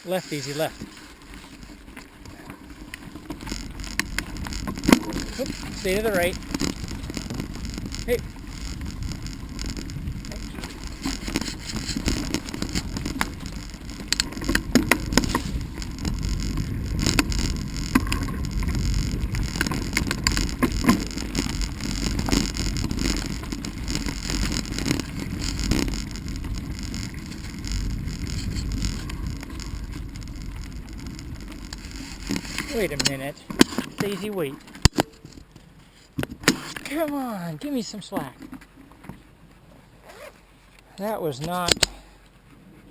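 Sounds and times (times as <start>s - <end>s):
bike rattling over bumps: 0.0s - 37.2s
bicycle tyres rumbling on dirt: 0.0s - 39.4s.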